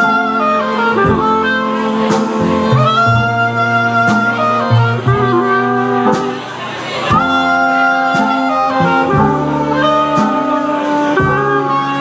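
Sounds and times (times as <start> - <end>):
banjo: 0.0 - 12.0
clarinet and brass melody: 0.0 - 12.0
plucked double bass: 0.0 - 12.0.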